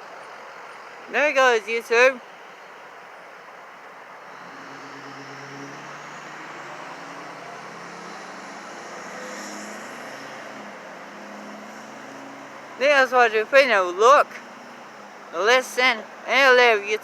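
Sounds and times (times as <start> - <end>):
faint diesel engine hum: 0.0 - 17.0.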